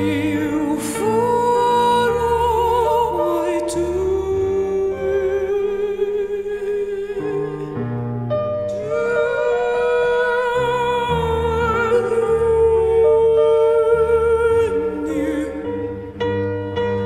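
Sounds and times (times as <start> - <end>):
operatic singing: 0.0 - 17.0.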